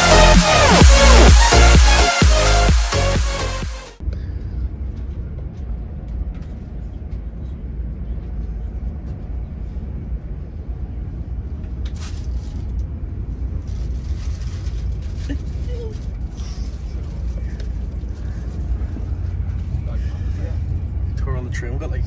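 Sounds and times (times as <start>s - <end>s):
train rumble inside carriage: 4.0s - 22.0s.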